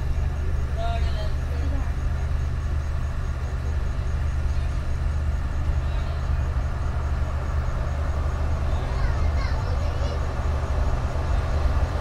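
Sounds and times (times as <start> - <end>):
train engine idling drone: 0.0 - 12.0.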